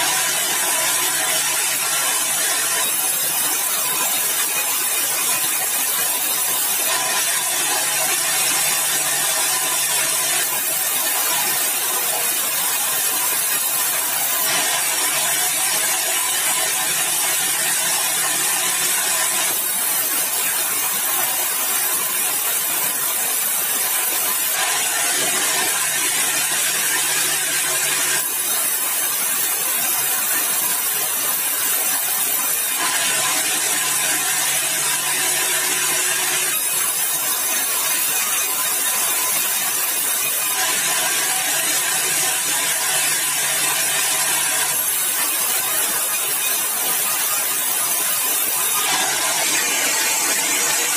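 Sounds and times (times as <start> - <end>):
sawmill saw cutting timber: 0.0 - 50.9.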